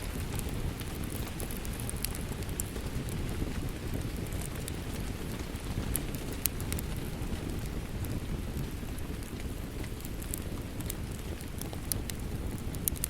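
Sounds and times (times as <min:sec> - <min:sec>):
steady rain rushing: 0:00.0 - 0:13.0
wood fire crackling and popping: 0:00.0 - 0:13.0.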